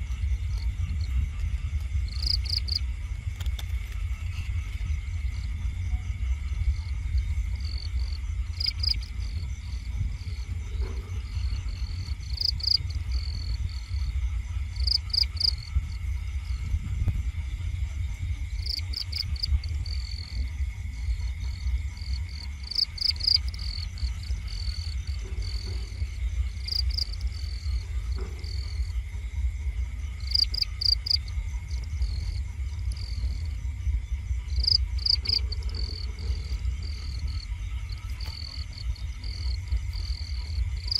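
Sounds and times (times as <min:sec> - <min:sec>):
low rumble: 0:00.0 - 0:40.9
night insects chirping: 0:00.0 - 0:40.9.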